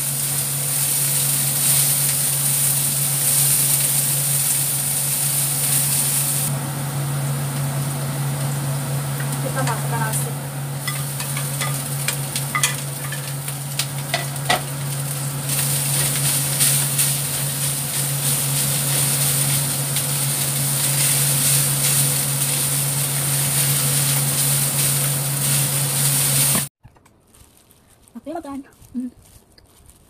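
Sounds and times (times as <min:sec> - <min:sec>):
food sizzling in a wok: 0:00.0 - 0:26.7.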